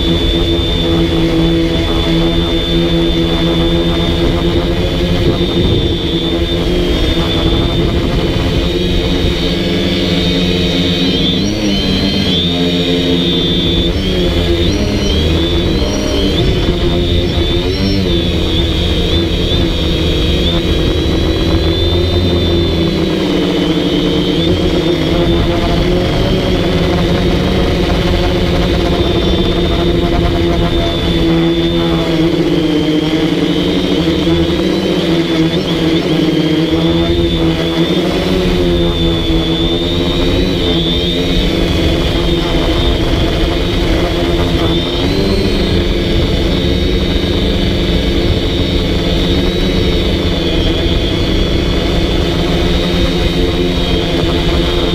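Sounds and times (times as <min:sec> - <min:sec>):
drone motors buzzing and whining: 0:00.0 - 0:54.9.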